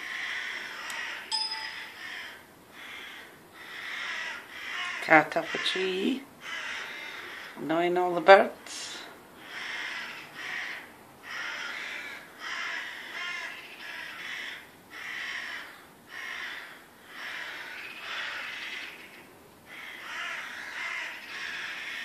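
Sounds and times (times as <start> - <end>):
crows cawing harshly: 0.0 - 7.6, 9.4 - 22.0.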